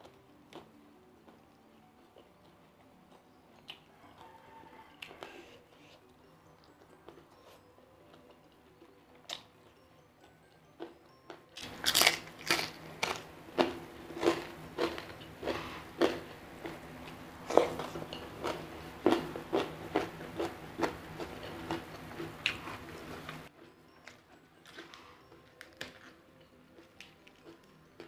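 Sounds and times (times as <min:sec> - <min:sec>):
man chewing food: 0:00.0 - 0:28.0.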